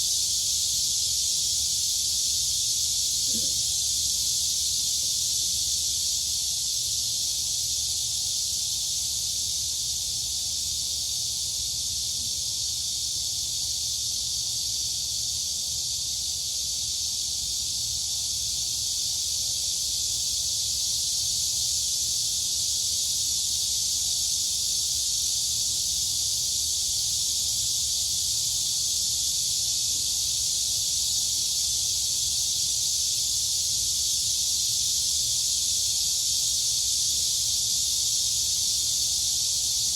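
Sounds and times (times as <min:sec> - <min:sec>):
crickets and cicadas buzzing: 0:00.0 - 0:39.9.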